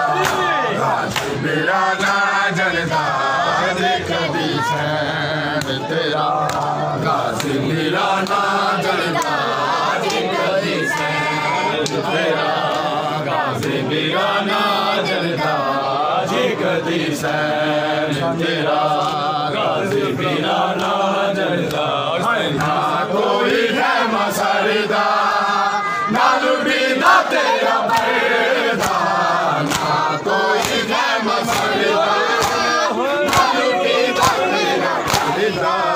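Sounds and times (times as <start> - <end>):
men chanting a lament in unison: 0.0 - 35.9.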